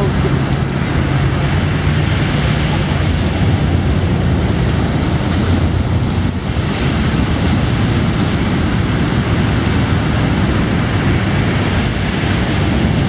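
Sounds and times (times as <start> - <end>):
distant powerboat engines droning: 0.0 - 13.0
surf breaking: 0.0 - 13.0
wind buffeting microphone: 0.0 - 13.0.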